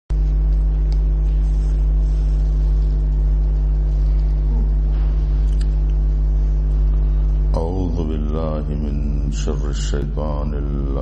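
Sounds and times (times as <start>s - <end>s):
loud electrical hum: 0.1s - 11.0s.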